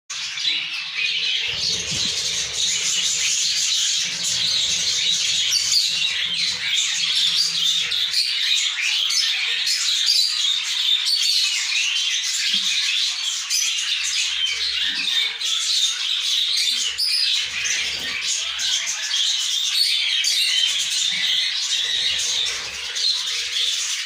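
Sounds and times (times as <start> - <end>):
budgerigars chirping: 0.2 - 24.0.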